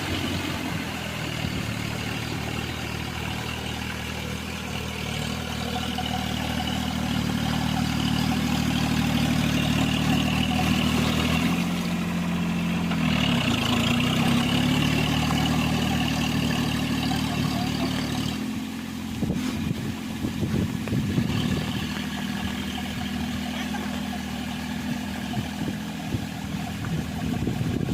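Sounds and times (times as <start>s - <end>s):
mini tractor engine running: 0.0s - 27.9s.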